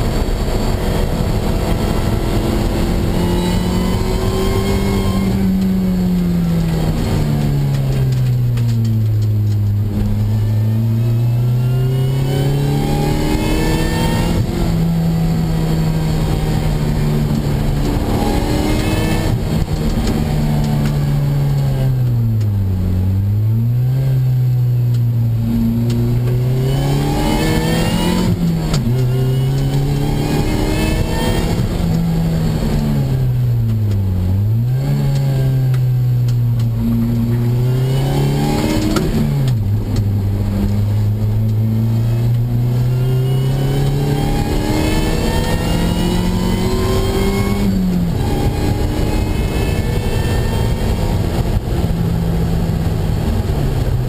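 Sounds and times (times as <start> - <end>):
car engine revving through gears: 0.0 - 54.0
tyre and wind noise: 0.0 - 54.0.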